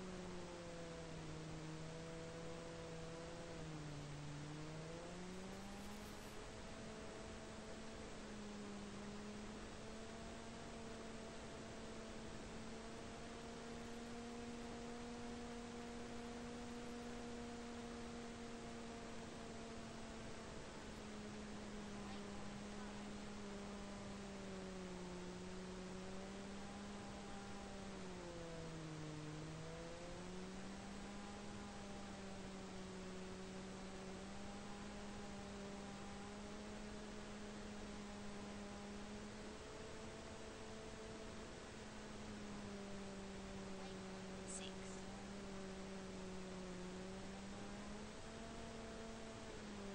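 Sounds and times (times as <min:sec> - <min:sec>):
model plane motor and propeller hum: 0:00.0 - 0:49.9.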